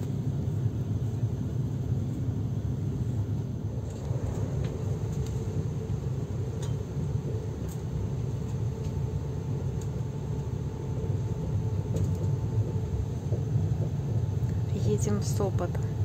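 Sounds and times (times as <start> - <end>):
train rumble inside carriage: 0.0 - 16.0.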